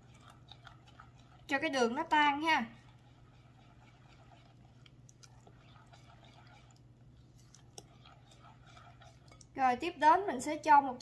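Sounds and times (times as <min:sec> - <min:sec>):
low steady hum: 0:00.0 - 0:11.0
spatula stirring batter in bowl: 0:00.0 - 0:11.0.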